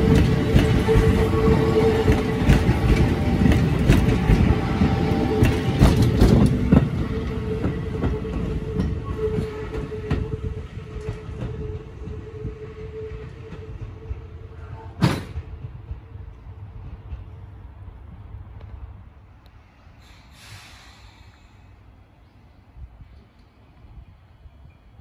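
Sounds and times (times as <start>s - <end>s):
train wheels clicking on rails: 0.0s - 21.7s
train whine: 0.0s - 25.0s.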